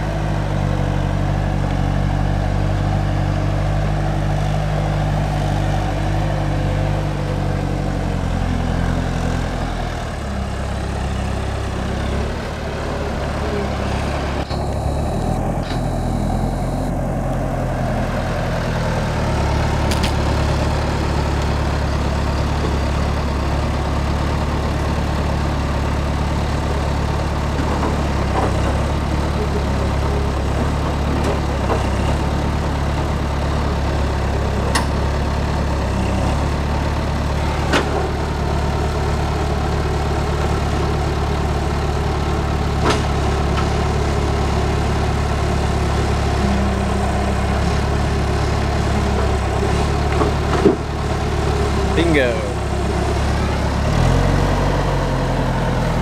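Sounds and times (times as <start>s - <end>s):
loader diesel engine running: 0.0s - 56.0s.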